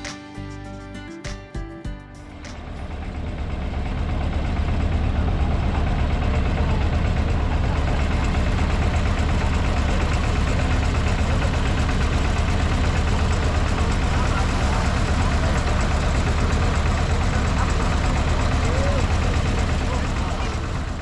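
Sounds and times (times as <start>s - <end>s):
engine idling with deep rumble: 2.2s - 21.0s.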